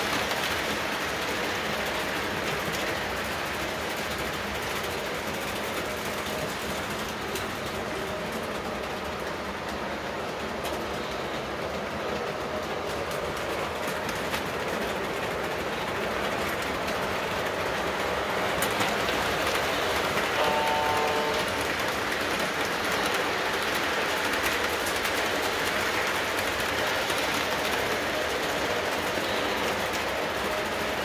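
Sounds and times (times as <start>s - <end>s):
model train wheels clattering on rails: 0.0s - 31.0s.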